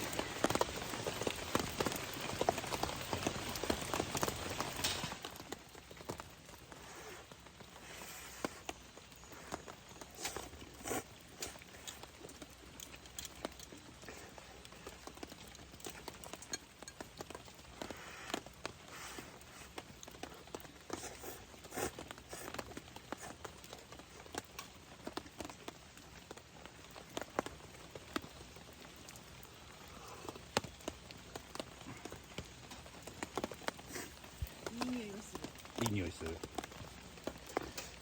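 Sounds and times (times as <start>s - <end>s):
rain pattering: 0.0s - 38.0s.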